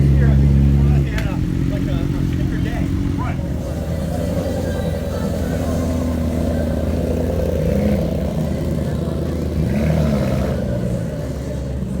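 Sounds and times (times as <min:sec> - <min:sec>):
car engine running and revving: 0:00.0 - 0:12.0.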